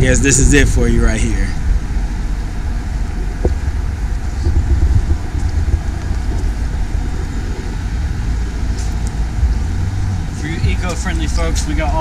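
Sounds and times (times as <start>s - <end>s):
faint traffic hum: 0.0s - 12.0s
wind buffeting microphone: 0.0s - 12.0s.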